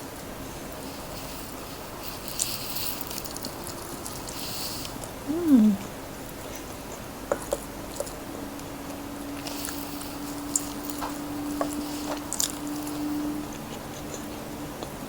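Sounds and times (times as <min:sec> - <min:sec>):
crispy chicken crunching: 0:00.7 - 0:05.3, 0:06.3 - 0:15.0
wet chewing clicks: 0:01.0 - 0:15.0.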